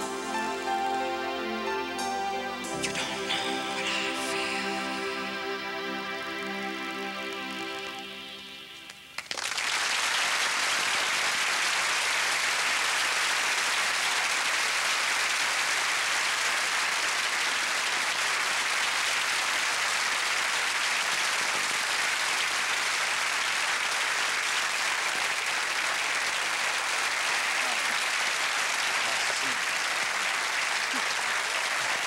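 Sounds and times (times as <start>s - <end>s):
audience applauding: 2.6s - 32.0s.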